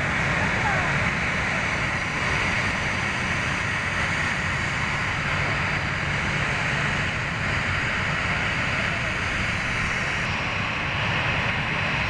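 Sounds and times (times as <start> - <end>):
jet airliner engines running: 0.0 - 12.0.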